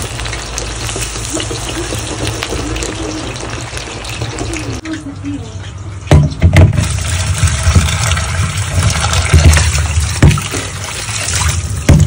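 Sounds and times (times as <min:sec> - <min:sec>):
tap water running into bowl: 0:00.0 - 0:05.1, 0:06.1 - 0:12.0.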